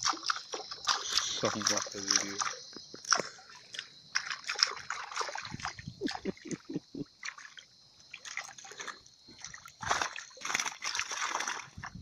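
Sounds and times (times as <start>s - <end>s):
fish splashing in a net: 0.0s - 12.0s
water sloshing: 0.0s - 12.0s.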